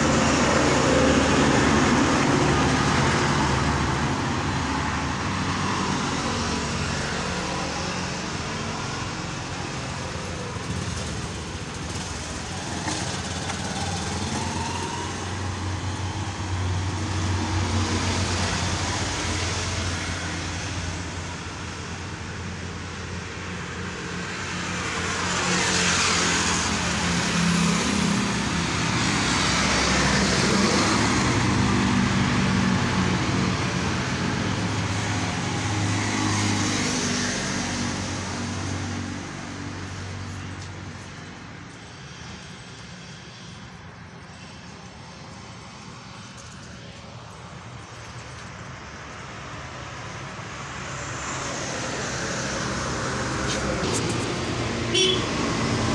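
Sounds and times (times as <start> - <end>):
road traffic rumble: 0.0 - 55.9.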